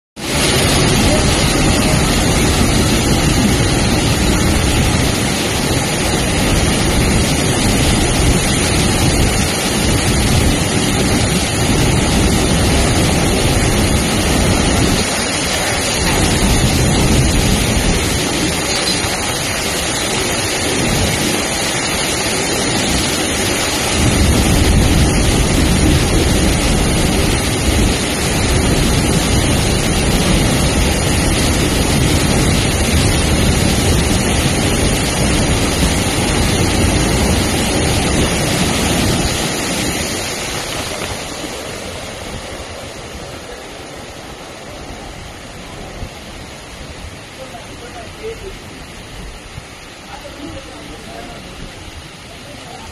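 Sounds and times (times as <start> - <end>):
rumble of train wagons: 0.2 - 52.9
water sprayed by train wheels: 0.2 - 52.9.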